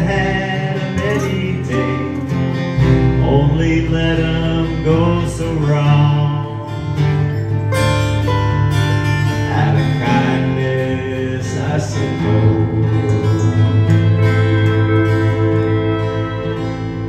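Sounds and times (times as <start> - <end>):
guitars plucked and strummed: 0.0 - 17.0
live country band playing: 0.0 - 17.0
steady bass: 0.0 - 17.0.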